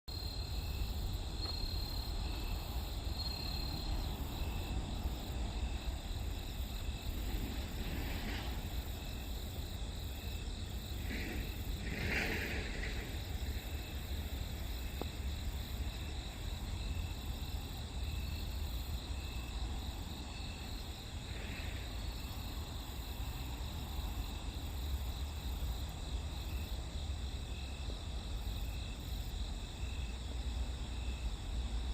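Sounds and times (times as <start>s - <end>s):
crickets trilling: 0.1s - 31.9s
insect chirp: 0.1s - 31.9s.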